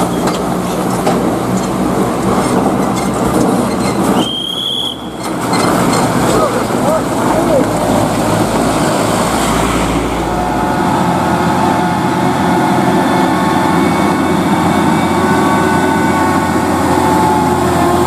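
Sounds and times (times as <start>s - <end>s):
diesel truck engine rumbling: 0.0s - 18.0s.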